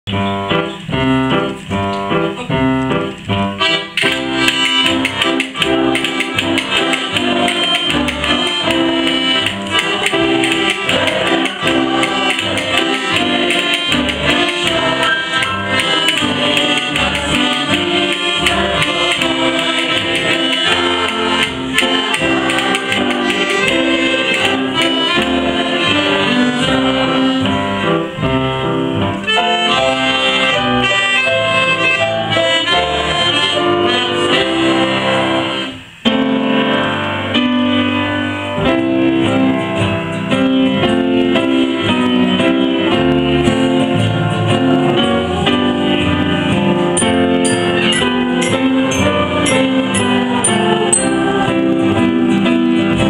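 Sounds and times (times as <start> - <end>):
acoustic guitar: 0.0 - 53.0
piano accompaniment: 0.0 - 53.0
piano accordion: 0.0 - 53.0.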